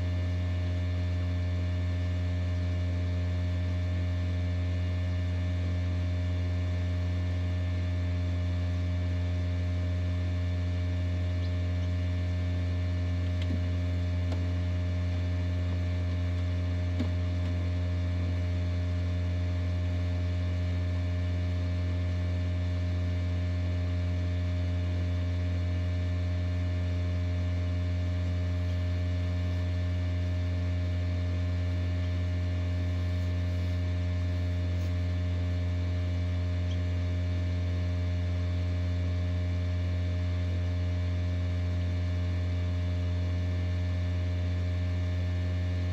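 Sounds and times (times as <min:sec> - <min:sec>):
egg incubator humming: 0:00.0 - 0:45.9.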